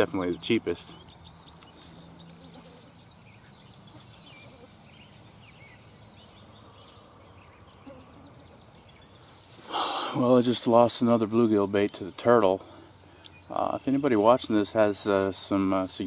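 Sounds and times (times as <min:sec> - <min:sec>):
bird chirps and calls: 0:00.0 - 0:15.8
steady background hiss: 0:00.0 - 0:16.0.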